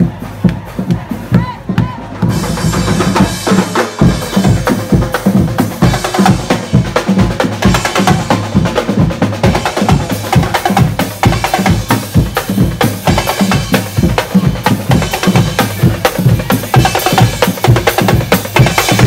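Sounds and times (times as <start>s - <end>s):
bass drums: 0.0s - 19.0s
snare drums: 0.0s - 19.0s.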